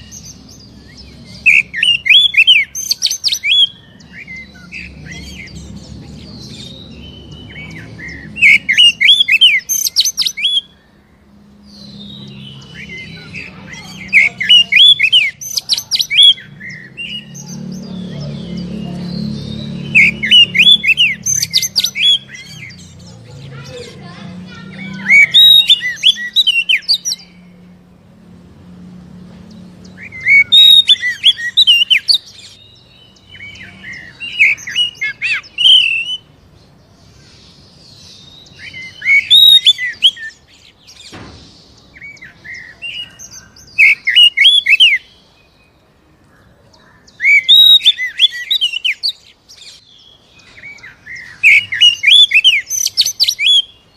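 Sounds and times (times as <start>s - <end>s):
bird singing whistles and chirps: 0.0s - 23.8s, 24.6s - 27.5s, 29.4s - 36.4s, 37.0s - 45.8s, 47.0s - 53.9s.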